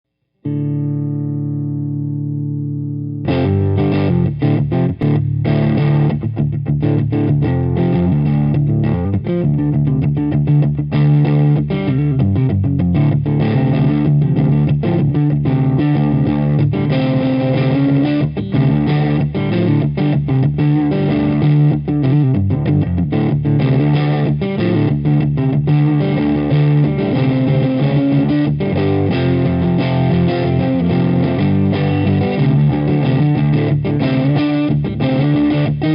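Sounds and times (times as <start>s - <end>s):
distorted electric guitar riffs: 0.4s - 35.9s.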